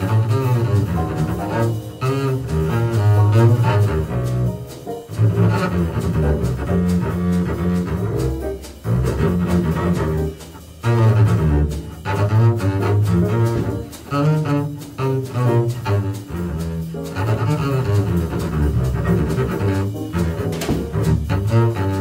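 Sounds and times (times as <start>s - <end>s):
bowed double bass jazz solo: 0.0s - 22.0s.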